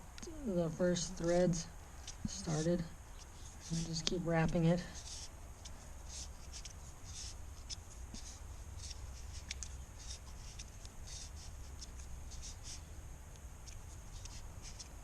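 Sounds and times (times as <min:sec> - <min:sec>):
tape crinkling and rubbing: 0:01.9 - 0:15.0.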